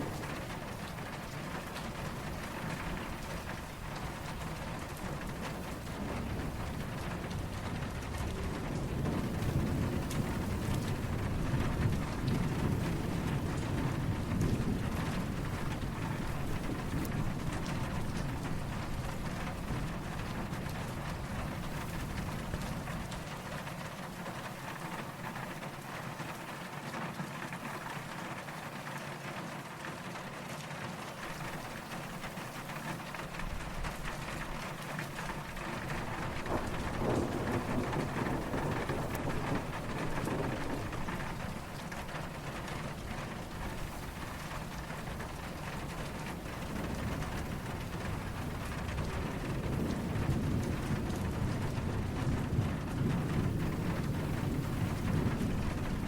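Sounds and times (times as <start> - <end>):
distant thunder rumbling: 0.0 - 26.4, 31.2 - 56.0
steady rain falling: 0.0 - 56.0.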